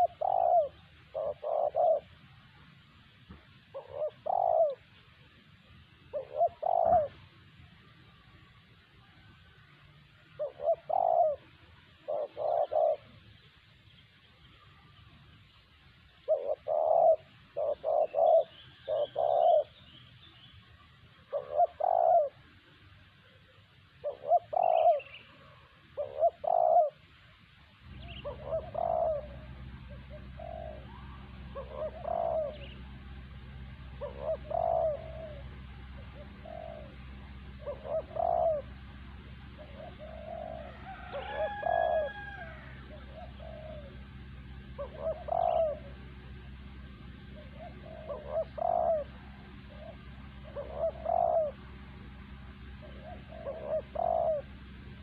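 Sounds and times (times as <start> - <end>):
dove cooing: 0.0 - 7.9, 9.0 - 13.3, 15.8 - 19.9, 21.1 - 27.2, 27.8 - 55.0
faint bird chirps: 0.0 - 55.0.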